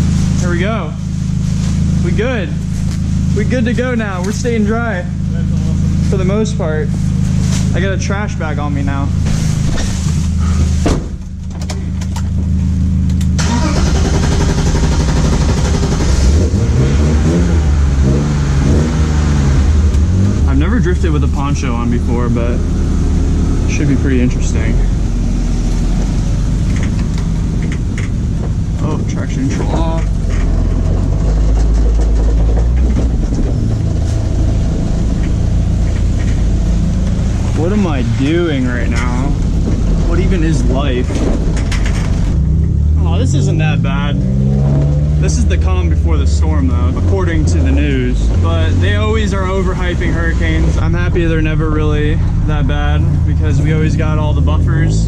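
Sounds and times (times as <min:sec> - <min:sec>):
car engine idling and accelerating: 0:00.0 - 0:55.0
wind and road noise: 0:07.2 - 0:54.9.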